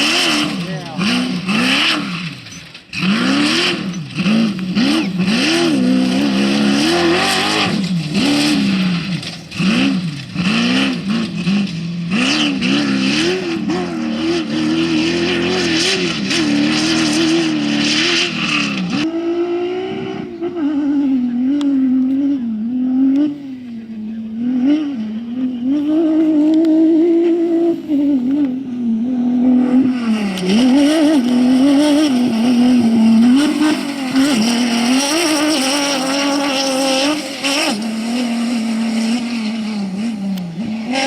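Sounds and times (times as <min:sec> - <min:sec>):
race vehicle engine revving: 0:00.0 - 0:41.0.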